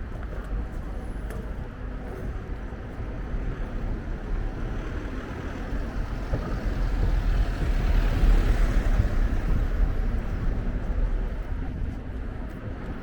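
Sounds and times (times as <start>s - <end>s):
deep steady city rumble: 0.0s - 13.0s.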